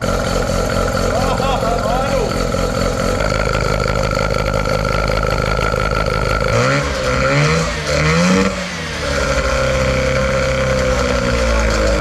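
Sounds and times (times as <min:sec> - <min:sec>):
rotary engine idling and revving: 0:00.0 - 0:12.0.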